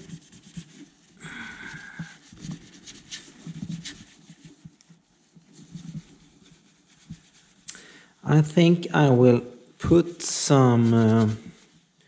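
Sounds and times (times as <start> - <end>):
paper towel rubbing plastic: 0.0 - 7.7, 8.3 - 12.0.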